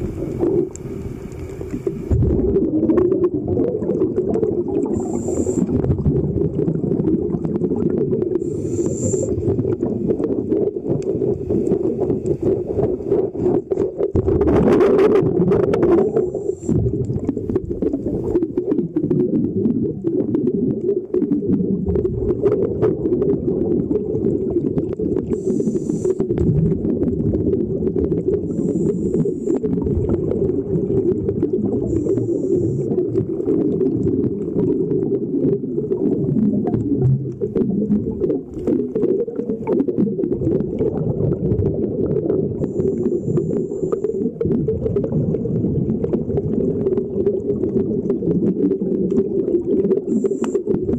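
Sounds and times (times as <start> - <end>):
muffled underwater water rumble: 0.0 - 50.9.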